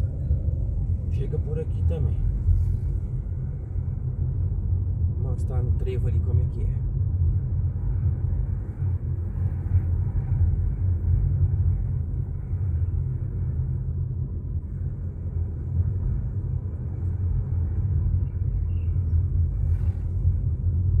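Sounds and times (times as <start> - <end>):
car driving on road: 0.0 - 21.0.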